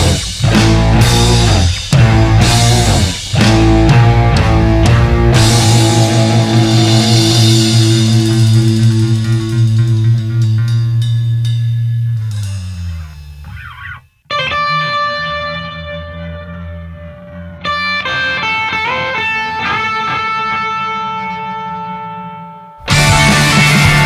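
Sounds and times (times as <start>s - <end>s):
electric guitar chords: 0.0s - 24.0s.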